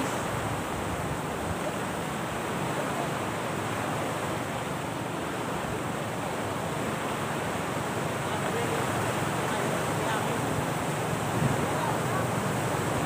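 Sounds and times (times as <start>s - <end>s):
small waves at shoreline: 0.0s - 13.0s.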